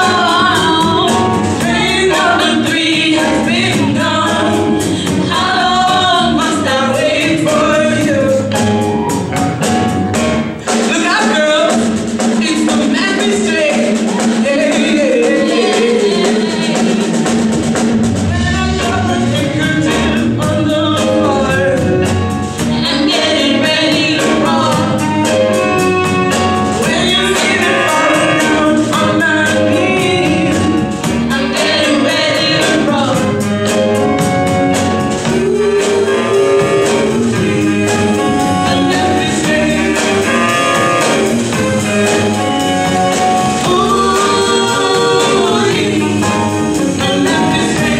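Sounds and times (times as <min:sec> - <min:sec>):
women singing: 0:00.0 - 0:08.6, 0:10.7 - 0:17.4, 0:18.3 - 0:47.9
live rock band playing: 0:00.0 - 0:47.9.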